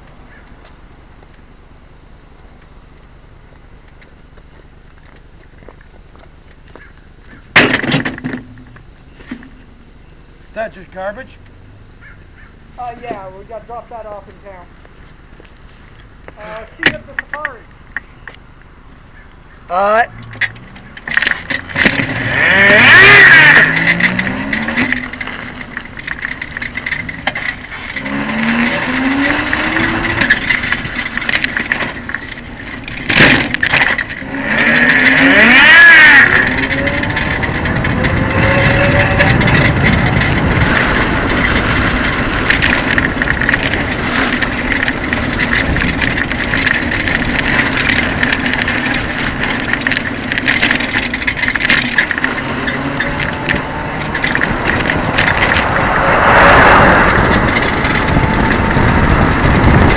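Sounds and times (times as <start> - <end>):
motorcycle trike engine revving: 4.9 - 59.9.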